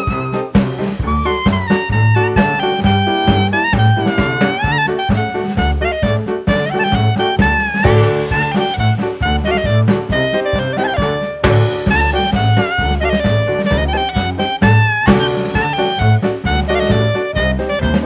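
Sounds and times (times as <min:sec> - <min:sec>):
jazz background music: 0:00.0 - 0:18.0.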